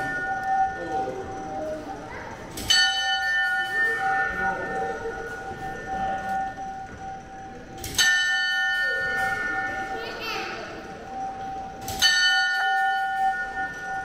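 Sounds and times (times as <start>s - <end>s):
clock bell striking: 0.0s - 14.0s.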